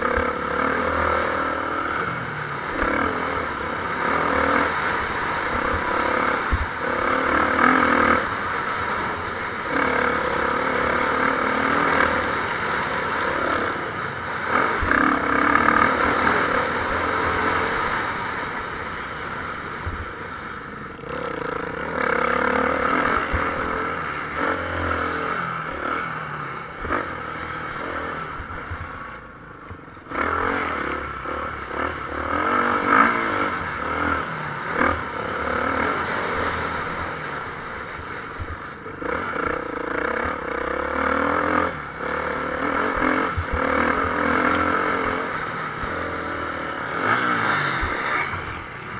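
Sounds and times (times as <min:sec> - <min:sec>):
motocross motorcycles revving: 0:00.0 - 0:48.9.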